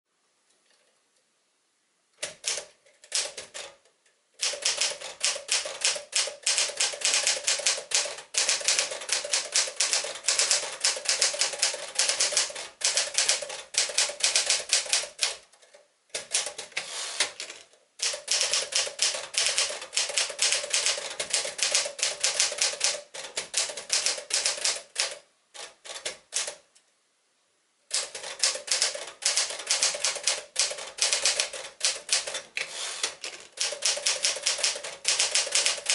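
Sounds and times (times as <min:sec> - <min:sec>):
manual typewriter typing: 0:02.2 - 0:03.8, 0:04.4 - 0:26.6, 0:27.9 - 0:35.9.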